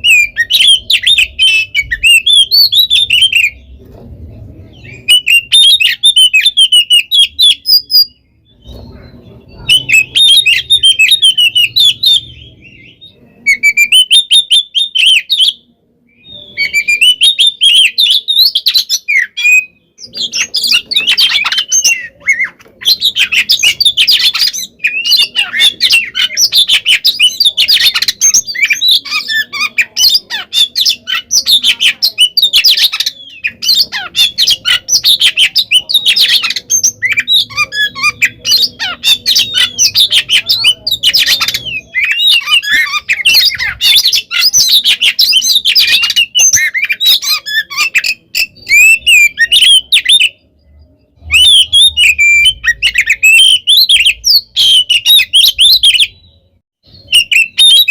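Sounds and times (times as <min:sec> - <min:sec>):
bird singing loudly: 0:00.0 - 0:03.8, 0:04.7 - 0:57.9.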